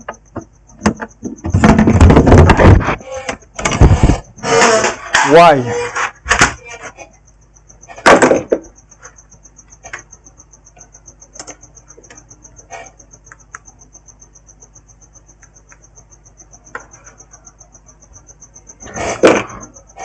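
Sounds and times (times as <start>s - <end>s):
cricket trilling: 0.0s - 20.0s.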